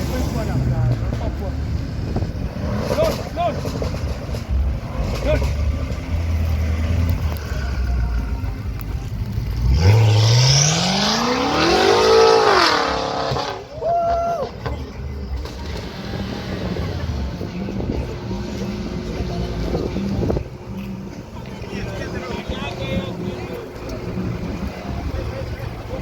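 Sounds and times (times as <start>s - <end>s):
car engine revving: 0.0s - 13.7s, 15.3s - 26.0s.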